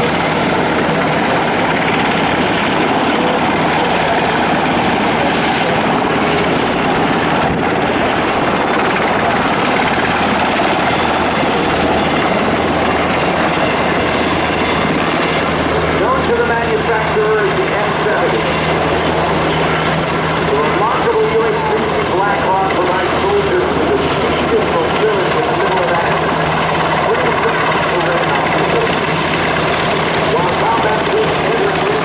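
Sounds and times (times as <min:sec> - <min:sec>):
helicopters flying: 0:00.0 - 0:32.0.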